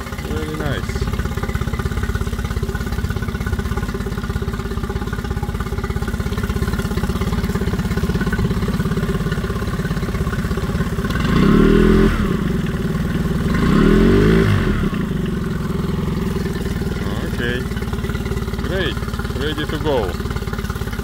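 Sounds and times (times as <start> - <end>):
outboard motor idling: 0.0 - 21.0
outboard motor revving: 0.0 - 21.0.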